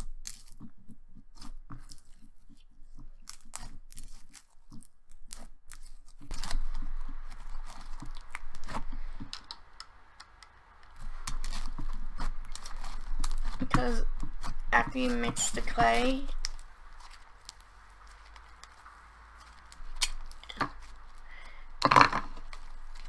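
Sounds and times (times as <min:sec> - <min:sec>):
slime kneaded by hand: 0:00.0 - 0:23.0.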